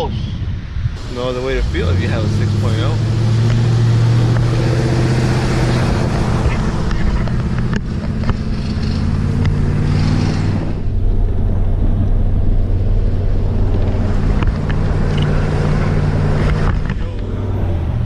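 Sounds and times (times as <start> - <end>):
road and wind hiss: 0.0 - 18.0
pickup truck engine under load: 1.0 - 18.0.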